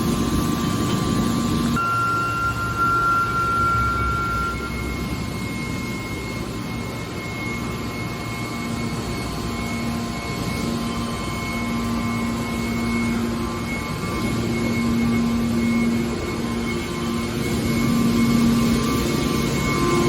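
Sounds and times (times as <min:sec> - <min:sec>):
baling press machine drone: 0:00.0 - 0:20.0.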